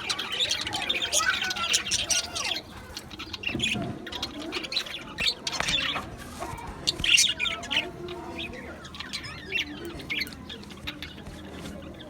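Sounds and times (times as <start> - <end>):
budgerigars chirping: 0.0 - 6.0, 7.0 - 12.0.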